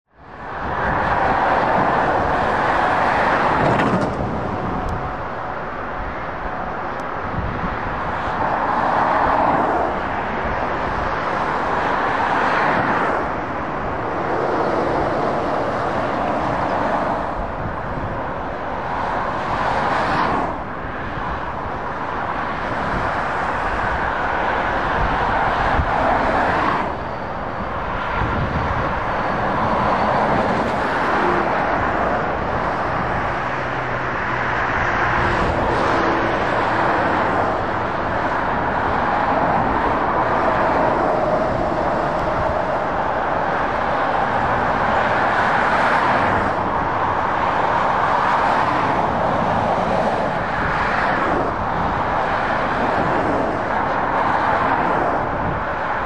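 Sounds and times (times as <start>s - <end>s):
motorway traffic passing: 0.0s - 56.0s.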